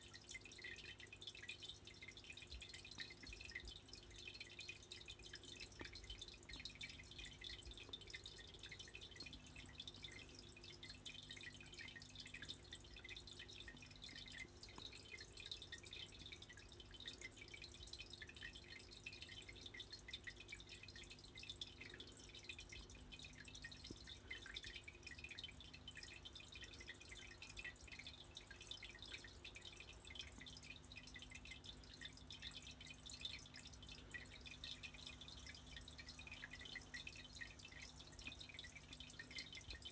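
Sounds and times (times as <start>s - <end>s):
faint crackle of ticks: 0.0s - 39.9s.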